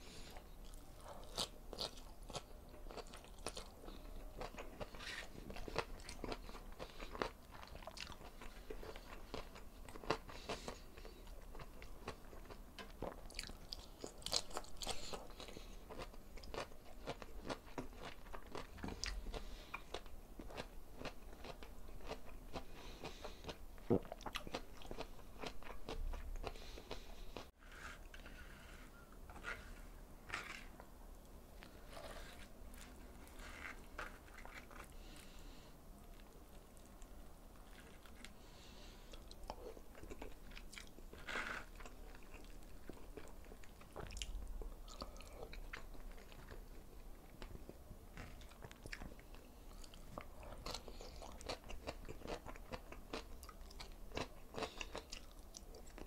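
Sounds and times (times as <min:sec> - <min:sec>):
chewing and crunching food: 0:00.1 - 0:56.0.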